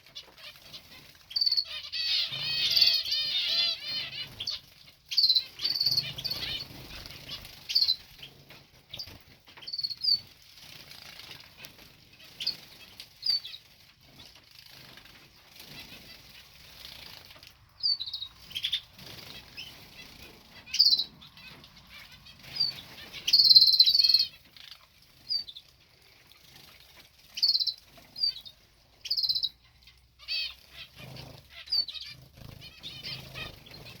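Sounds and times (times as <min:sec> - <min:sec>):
bird wings fluttering and splashing: 0:00.0 - 0:23.5, 0:24.2 - 0:29.2, 0:30.0 - 0:34.0.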